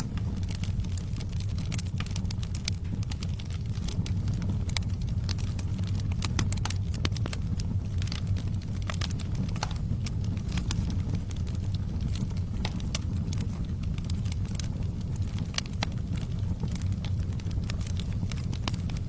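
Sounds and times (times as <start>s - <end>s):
log fire crackling: 0.0s - 19.0s.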